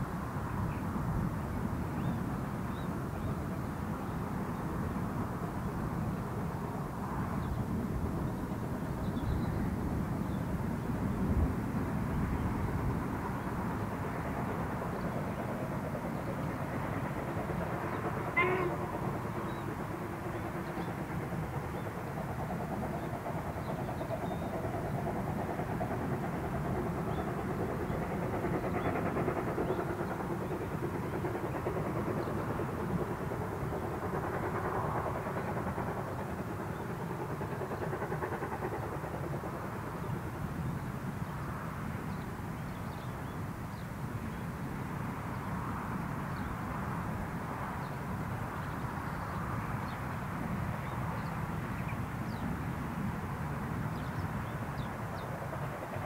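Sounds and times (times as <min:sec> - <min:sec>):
distant steam locomotive chuffing: 0:00.1 - 0:56.0.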